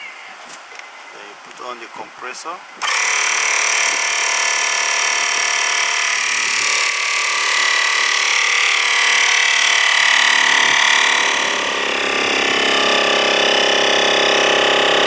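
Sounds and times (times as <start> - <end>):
air compressor running: 2.8 - 15.0.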